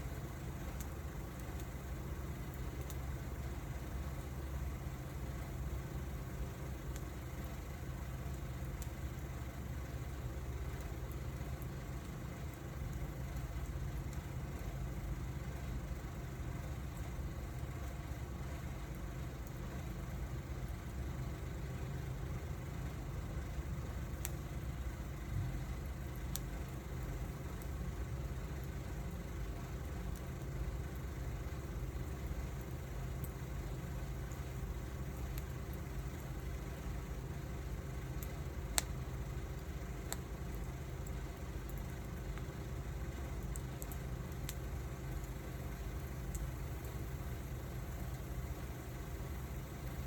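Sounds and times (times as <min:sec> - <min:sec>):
sharp fire crackles: 0:00.0 - 0:50.0
wood fire rumbling: 0:00.0 - 0:50.0.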